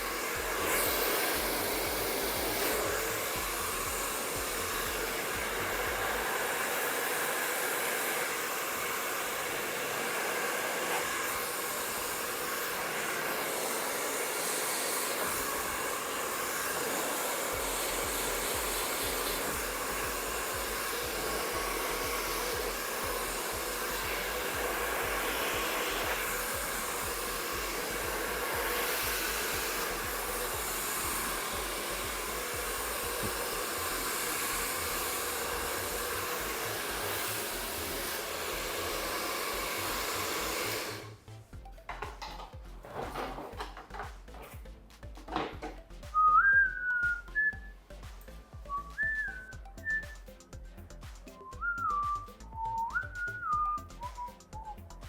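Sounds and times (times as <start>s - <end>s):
hair dryer running: 0.0s - 41.3s, 45.4s - 50.5s, 51.2s - 54.8s.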